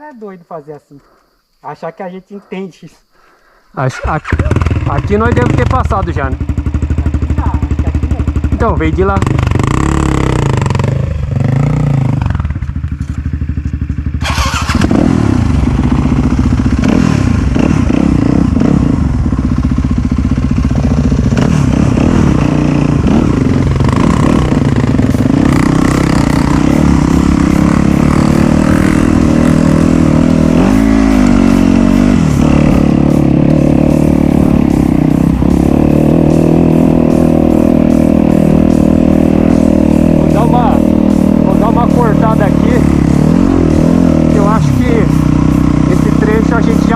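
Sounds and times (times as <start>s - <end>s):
dirt bike engine revving: 3.9s - 46.9s.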